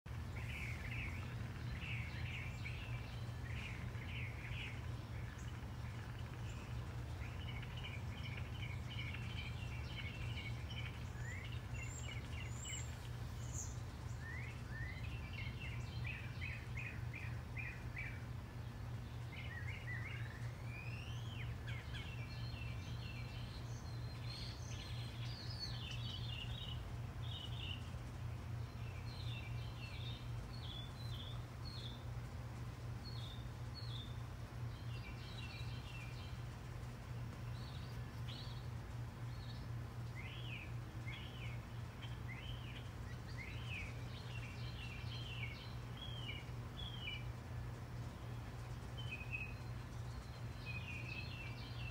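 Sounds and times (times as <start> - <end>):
finch singing: 0.1 - 51.9
steady low hum: 0.1 - 51.9.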